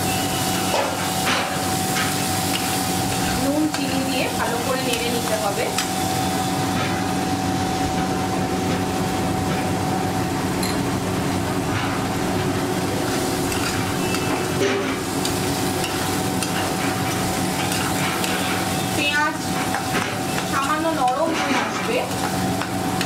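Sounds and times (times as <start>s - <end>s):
onions sizzling in oil: 0.0s - 23.0s
steady background hum: 0.0s - 23.0s.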